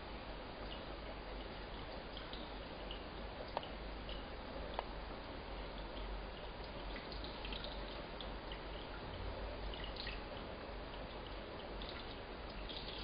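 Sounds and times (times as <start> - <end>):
faint underwater clicks and crackles: 0.5 - 13.0.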